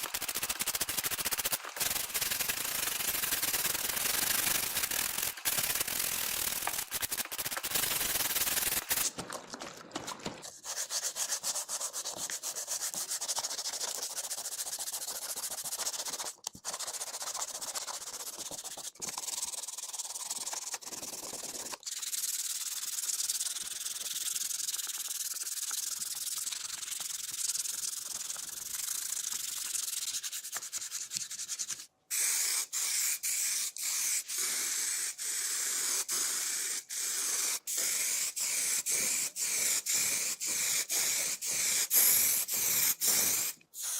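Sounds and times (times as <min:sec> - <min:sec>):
sanding plastic: 0:00.0 - 0:09.3, 0:09.9 - 0:34.7, 0:37.1 - 0:43.9.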